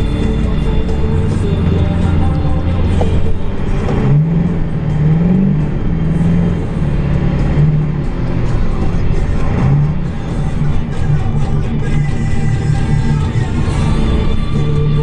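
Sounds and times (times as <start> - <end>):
diesel truck engine running: 0.0 - 15.0
music playing: 0.0 - 15.0.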